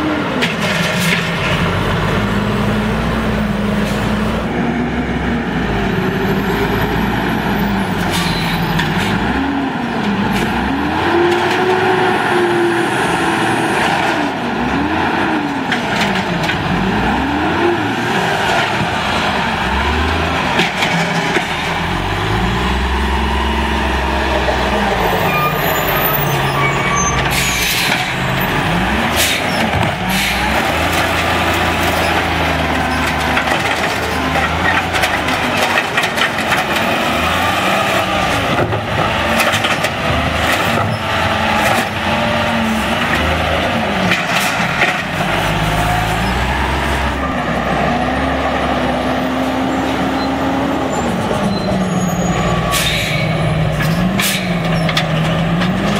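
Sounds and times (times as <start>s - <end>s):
garbage truck diesel engine revving: 0.0s - 55.9s.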